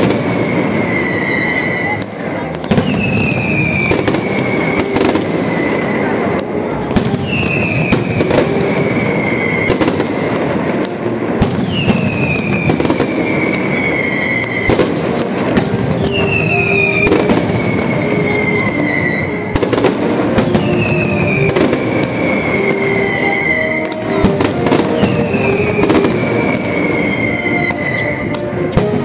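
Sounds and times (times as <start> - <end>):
firecrackers crackling and banging: 0.0 - 29.0
whistling rockets falling in pitch: 0.0 - 29.0.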